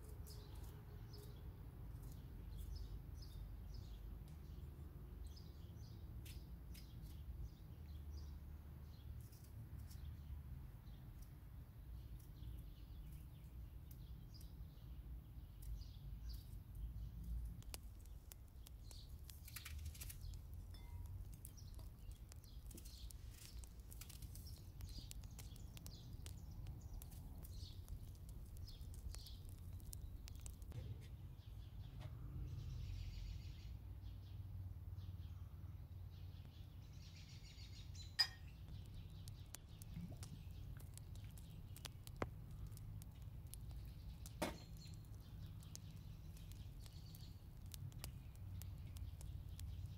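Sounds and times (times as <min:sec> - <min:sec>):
birds chirping: 0:02.0 - 0:34.4, 0:35.0 - 0:49.9
low outdoor rumble: 0:09.6 - 0:49.9.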